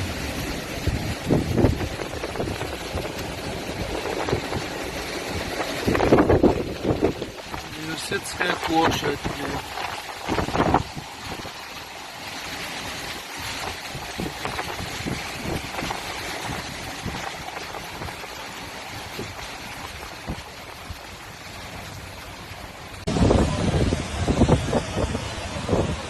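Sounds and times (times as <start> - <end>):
storm wind rushing: 0.0 - 21.1, 23.0 - 26.0.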